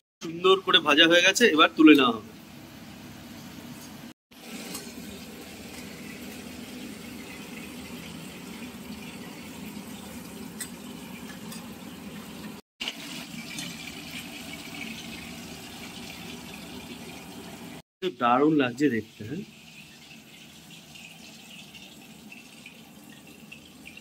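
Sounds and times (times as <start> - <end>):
fish frying in oil: 2.8 - 24.0.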